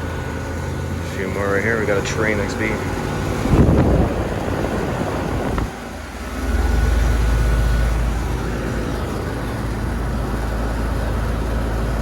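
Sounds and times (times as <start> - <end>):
air conditioner fan and compressor hum: 0.0 - 12.0.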